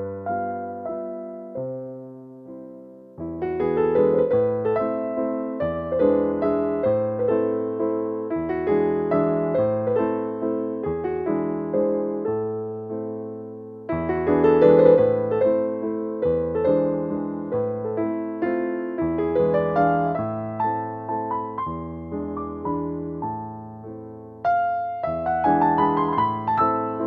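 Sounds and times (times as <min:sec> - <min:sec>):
gentle piano chords: 0:00.0 - 0:27.0.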